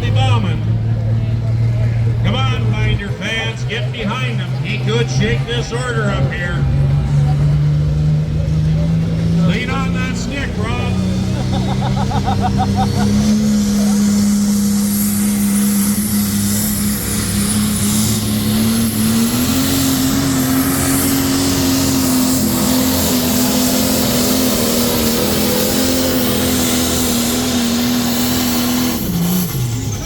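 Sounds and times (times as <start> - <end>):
tractor engine under load: 0.0 - 30.0.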